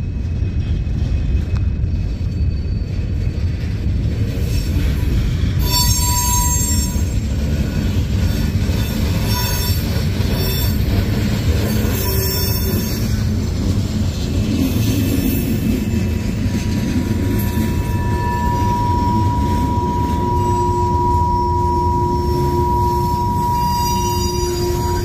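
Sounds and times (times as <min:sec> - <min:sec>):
freight train cars rumbling: 0:00.0 - 0:25.0
metallic wheel squeal: 0:01.8 - 0:03.4, 0:04.6 - 0:13.7, 0:14.6 - 0:25.0.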